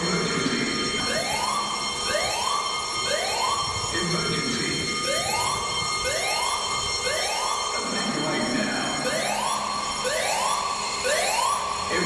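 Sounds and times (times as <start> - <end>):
fire alarm rising whoop tone: 0.9 - 12.0.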